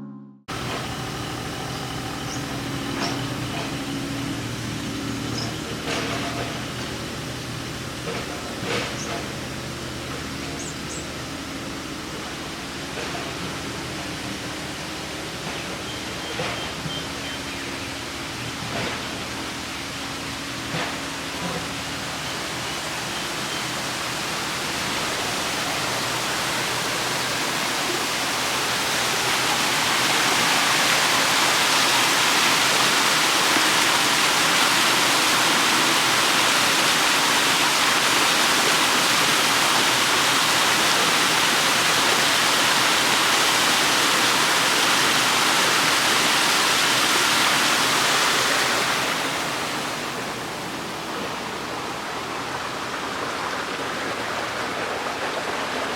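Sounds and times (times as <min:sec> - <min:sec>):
stream water rushing: 0:00.5 - 0:55.9.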